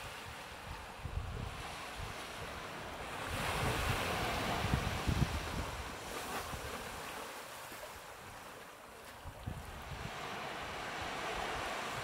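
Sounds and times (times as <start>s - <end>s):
wind rumble on microphone: 0.0s - 8.4s, 9.1s - 12.0s
small waves washing on beach: 0.0s - 12.0s.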